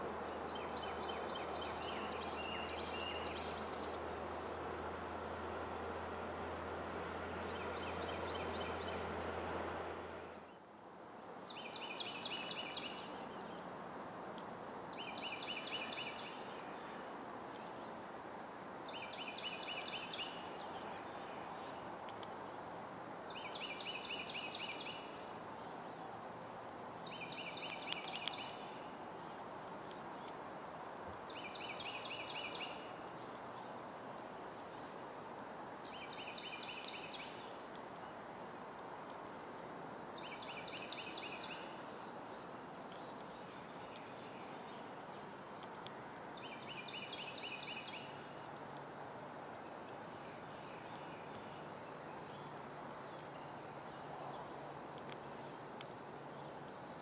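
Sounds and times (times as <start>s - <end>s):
crickets droning: 0.0s - 57.0s.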